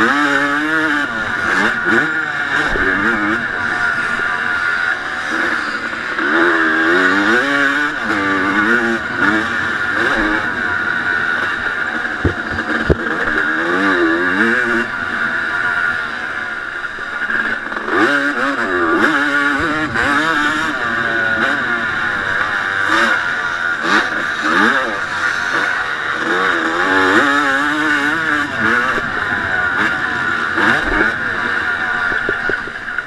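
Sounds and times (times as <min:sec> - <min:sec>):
motorbike engine revving: 0:00.0 - 0:33.0.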